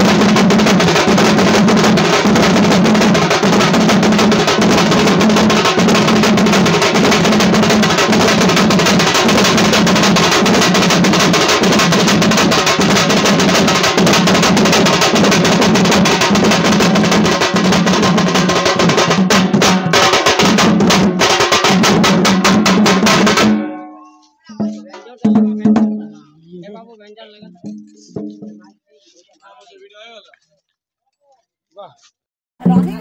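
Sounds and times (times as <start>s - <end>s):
rapid dense drumming: 0.0s - 28.8s, 32.6s - 33.0s.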